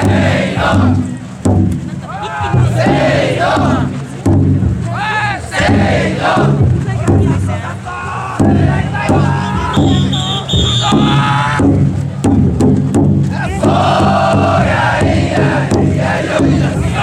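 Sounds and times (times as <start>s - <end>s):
crowd chanting in unison: 0.0s - 1.3s, 2.0s - 12.2s, 13.2s - 17.0s.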